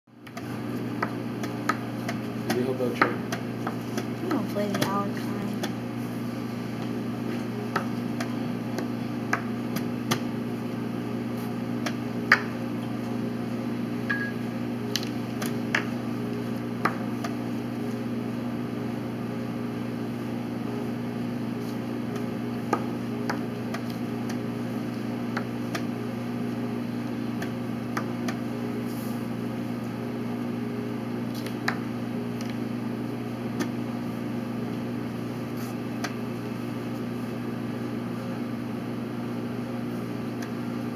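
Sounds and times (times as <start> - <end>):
low background hum: 0.2 - 40.9.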